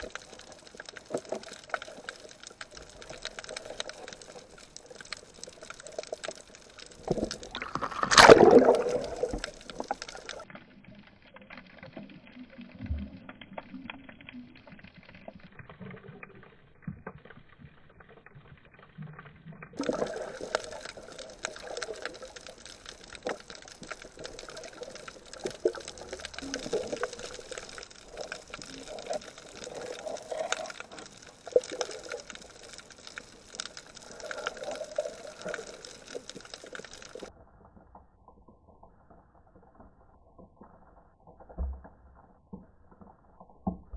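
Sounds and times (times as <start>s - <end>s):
water bubbling and sloshing: 0.0s - 43.9s.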